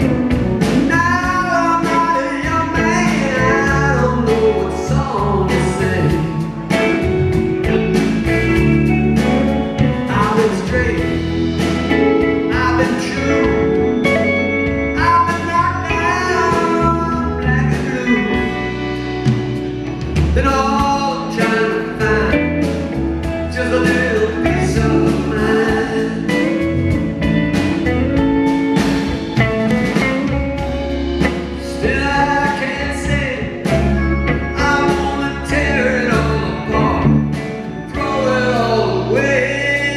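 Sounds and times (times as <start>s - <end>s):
man singing lead: 0.0s - 9.0s, 9.7s - 19.0s, 20.2s - 27.0s, 30.6s - 39.9s
live rock band: 0.0s - 39.9s.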